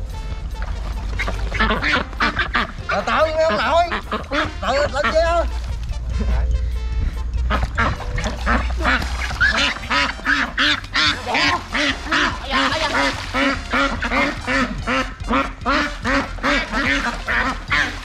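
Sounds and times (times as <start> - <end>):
duck quacking: 0.7 - 6.5, 7.3 - 18.0.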